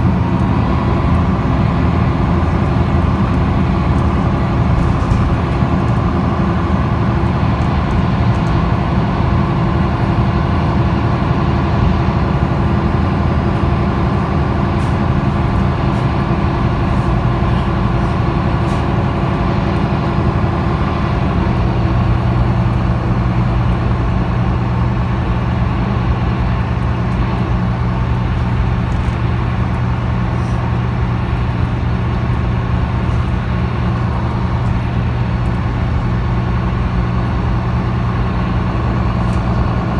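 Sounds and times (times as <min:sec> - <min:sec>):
bus diesel engine running: 0:00.0 - 0:39.9
road rumble: 0:00.0 - 0:39.9.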